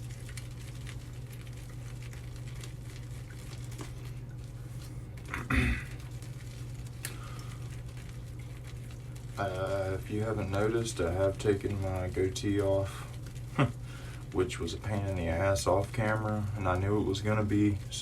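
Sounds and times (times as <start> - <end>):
shaving brush lathering soap: 0.0 - 5.2, 5.9 - 18.0
steady low hum: 0.0 - 18.0.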